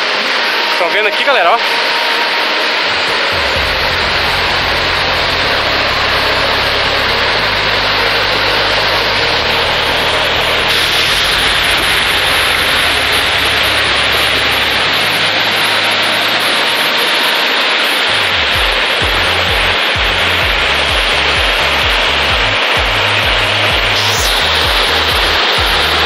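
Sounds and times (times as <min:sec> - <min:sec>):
waterfall rushing over rocks: 0:00.0 - 0:26.0
low hum: 0:01.6 - 0:26.0.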